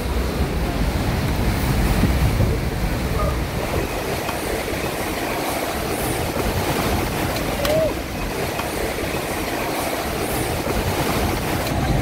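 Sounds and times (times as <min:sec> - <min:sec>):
hurricane wind and rain roar: 0:00.0 - 0:12.0.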